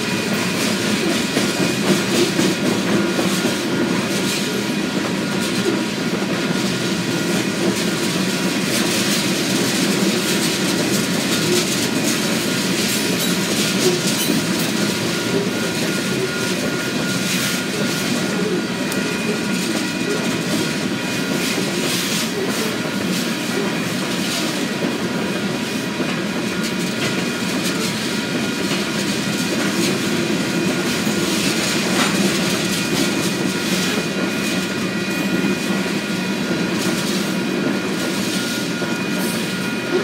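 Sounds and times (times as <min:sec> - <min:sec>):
freight cars rumbling on rails: 0:00.0 - 0:40.0.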